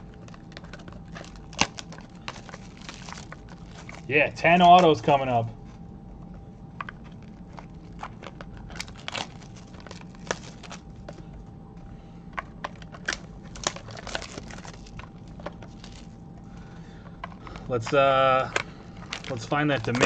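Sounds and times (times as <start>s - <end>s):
packaging crinkling and tearing: 0.0s - 5.8s, 6.7s - 11.3s, 12.4s - 20.0s.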